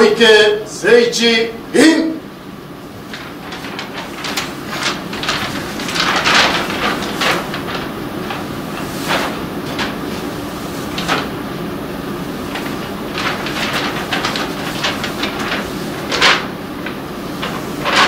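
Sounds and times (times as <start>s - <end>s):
paper rustling and crackling: 2.8s - 18.0s.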